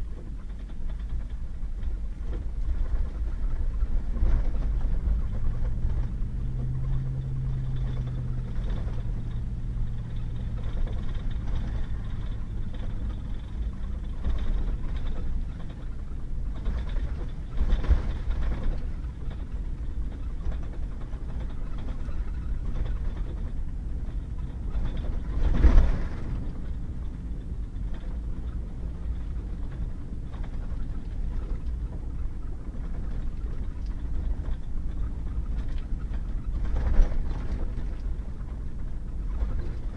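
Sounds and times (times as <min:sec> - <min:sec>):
truck engine and tyre rumble: 0:00.0 - 0:39.9.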